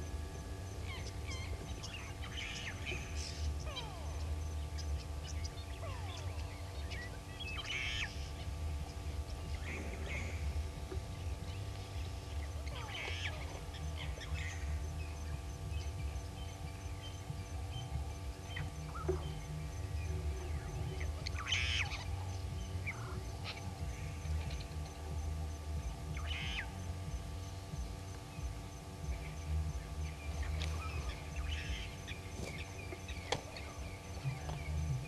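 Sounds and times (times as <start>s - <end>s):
low rumble and hum: 0.0s - 35.0s
harsh bird calls: 0.7s - 25.0s, 25.8s - 35.0s.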